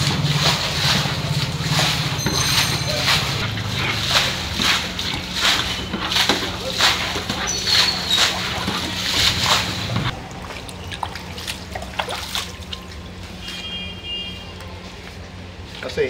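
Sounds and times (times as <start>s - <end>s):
water splashing: 0.0s - 13.5s
water sloshing and trickling: 0.0s - 14.8s.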